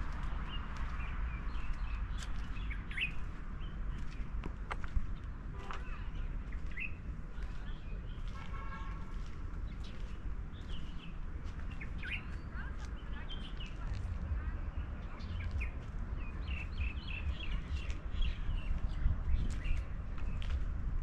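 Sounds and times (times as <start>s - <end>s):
steady low rumble: 0.0s - 21.0s
small birds chirping: 0.1s - 20.8s.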